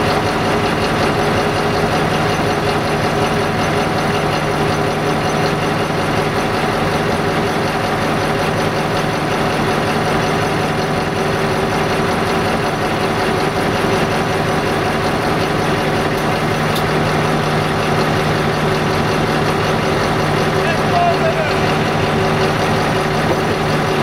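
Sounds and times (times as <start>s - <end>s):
locomotive diesel engine droning: 0.0s - 24.0s.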